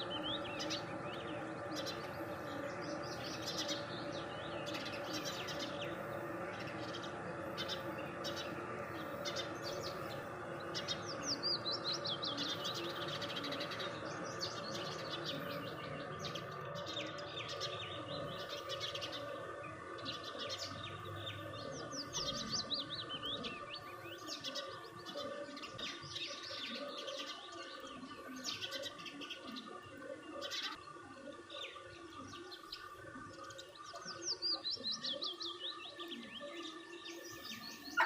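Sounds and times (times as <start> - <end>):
small birds chirping: 0.0 - 38.0
steady humming drone: 0.0 - 38.0.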